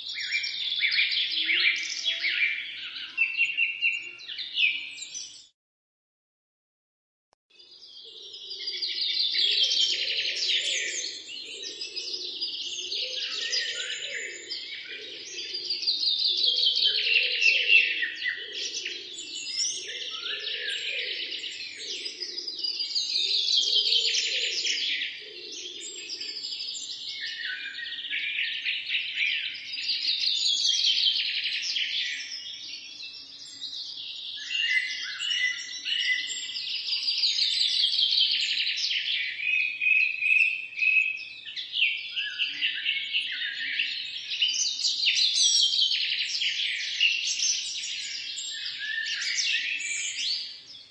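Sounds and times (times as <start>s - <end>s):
birds chirping: 7.6s - 50.9s.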